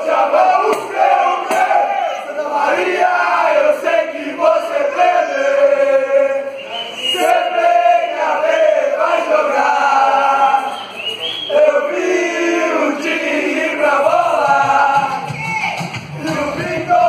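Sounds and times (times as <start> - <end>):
men chanting together: 0.0 - 6.5, 7.2 - 10.9, 11.5 - 15.3, 16.1 - 17.0.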